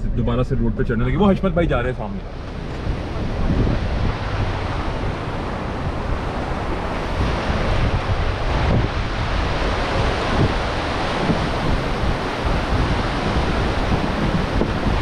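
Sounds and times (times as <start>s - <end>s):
wind buffeting microphone: 0.0s - 15.0s
river rushing over rocks: 2.2s - 15.0s.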